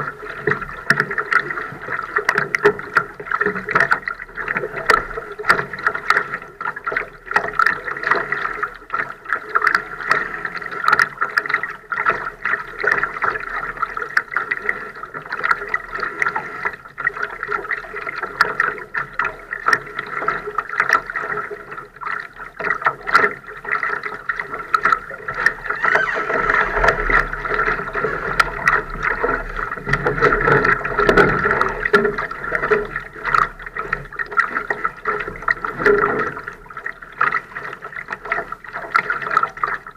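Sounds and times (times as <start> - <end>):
water lapping against hull: 0.0 - 39.9.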